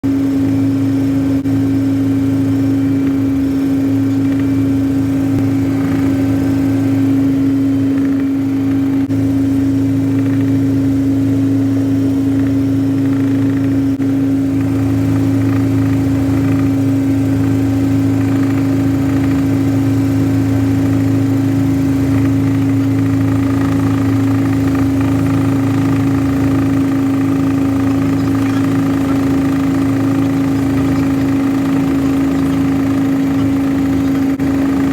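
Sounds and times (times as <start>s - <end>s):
helicopter droning in flight: 0.0s - 34.9s.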